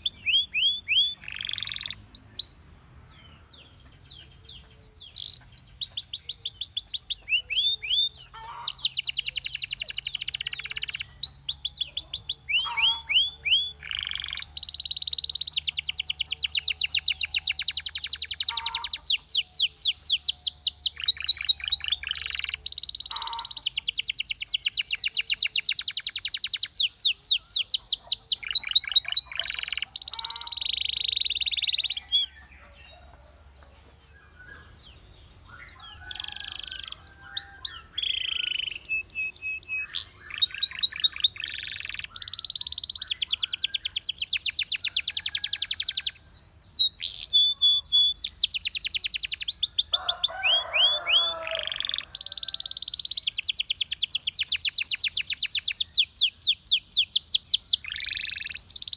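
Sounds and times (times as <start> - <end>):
canary singing trills and whistles: 0.0 - 2.6, 3.7 - 33.0, 34.2 - 58.9.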